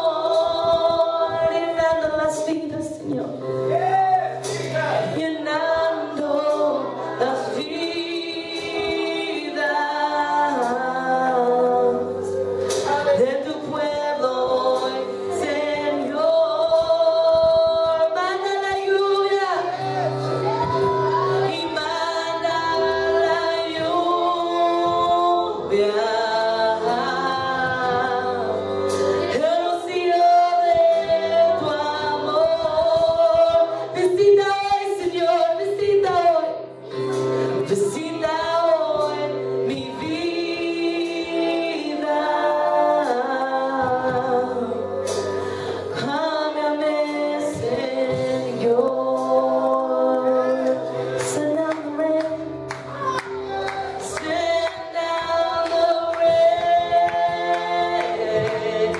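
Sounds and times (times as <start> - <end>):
low keyboard chords: 0.0 - 58.9
singers singing praise song: 0.0 - 58.9.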